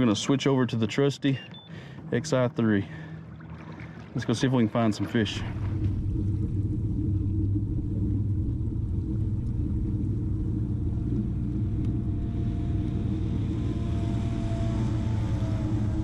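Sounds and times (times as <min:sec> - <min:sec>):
distant motorboat engine hum: 0:00.0 - 0:16.0
wind and water rumble: 0:00.0 - 0:16.0.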